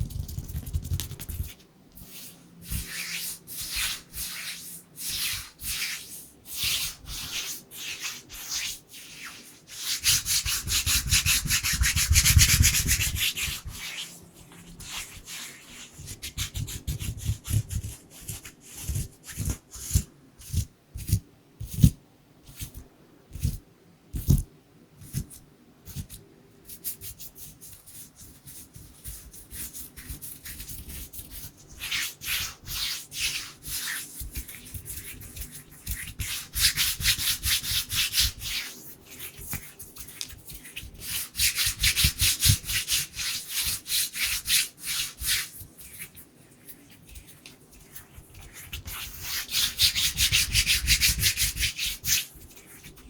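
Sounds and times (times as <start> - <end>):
hands rubbing together: 0.0 - 18.6, 26.7 - 53.0.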